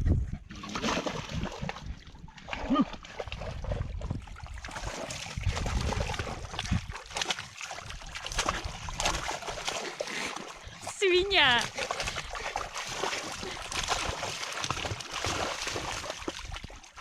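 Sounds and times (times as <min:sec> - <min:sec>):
splashing in muddy water: 0:00.4 - 0:17.0.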